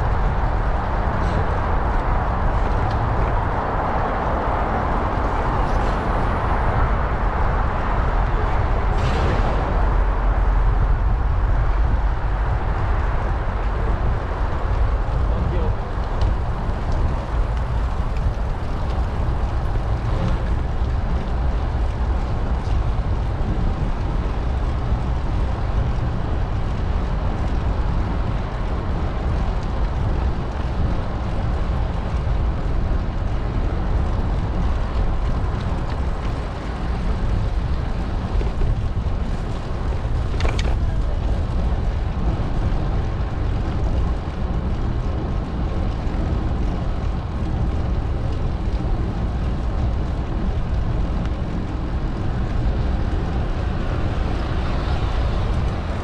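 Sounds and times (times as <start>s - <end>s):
bicycle rolling noise: 0.0s - 56.0s
wind rush on microphone: 0.0s - 56.0s.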